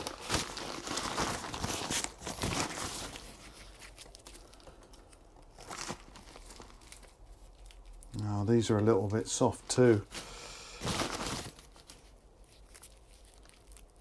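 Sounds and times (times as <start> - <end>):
garlic skins crinkling: 0.0 - 14.0.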